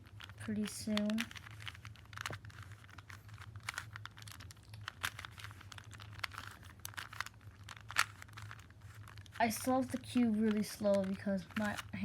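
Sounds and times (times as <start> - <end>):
puzzle cube clicking: 0.0 - 12.0
steady low hum: 0.0 - 12.0.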